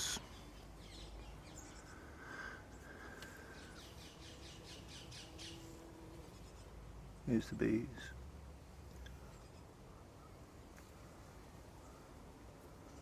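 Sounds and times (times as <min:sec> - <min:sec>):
small birds chirping: 0:00.0 - 0:07.9, 0:08.9 - 0:12.2.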